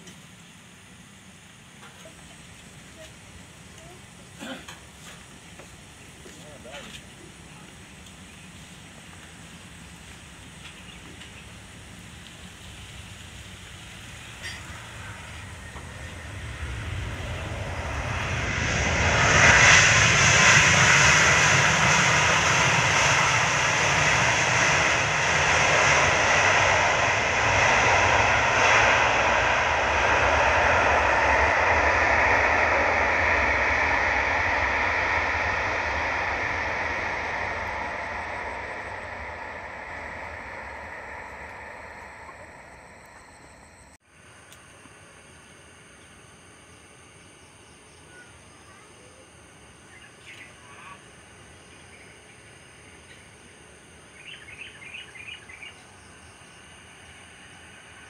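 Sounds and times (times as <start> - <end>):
jet aircraft passing: 0.0 - 44.0, 44.8 - 58.0.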